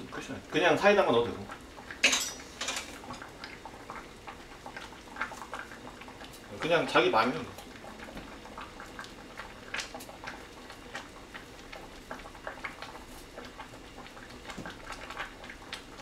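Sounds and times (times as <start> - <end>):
bubbles popping in boiling pot: 0.0 - 16.0.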